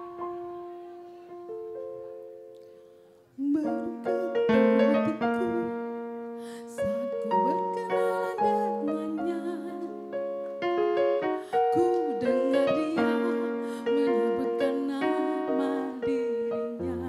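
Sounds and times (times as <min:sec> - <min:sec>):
electric piano playing: 0:00.0 - 0:17.0.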